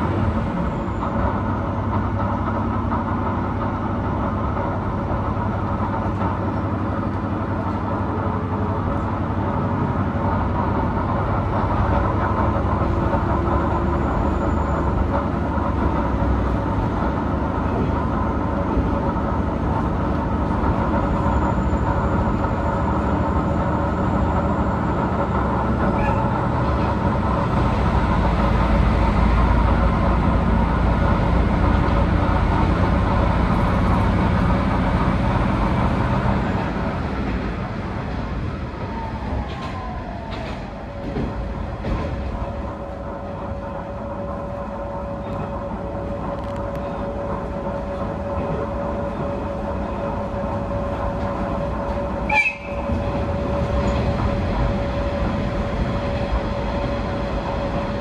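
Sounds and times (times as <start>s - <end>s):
diesel railcar engine running: 0.0s - 58.0s.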